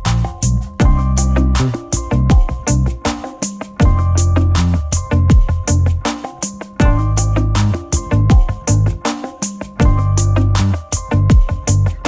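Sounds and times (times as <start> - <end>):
electronic music with kick drums: 0.0 - 12.0.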